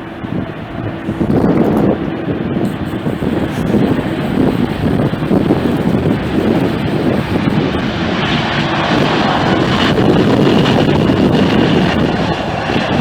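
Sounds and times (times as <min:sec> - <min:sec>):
jet engine noise: 0:00.0 - 0:13.0
wind buffeting microphone: 0:00.0 - 0:13.0.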